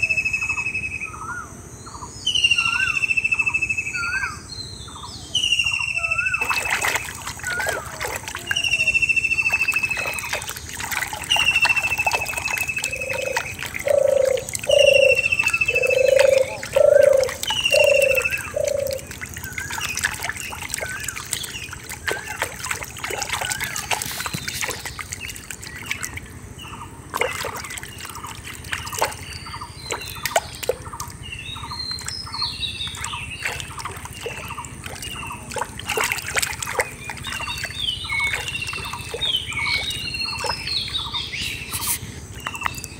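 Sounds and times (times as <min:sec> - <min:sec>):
bird chirps: 0:00.0 - 0:42.9
low hooting bird notes: 0:05.4 - 0:42.9
hand sloshing in muddy water: 0:06.2 - 0:42.9.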